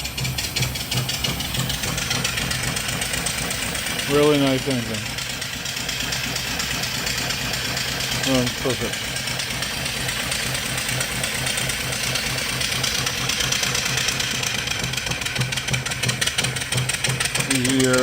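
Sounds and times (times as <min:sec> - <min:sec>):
steam engine rhythmic beat: 0:00.0 - 0:18.0
steam hissing: 0:00.0 - 0:18.0.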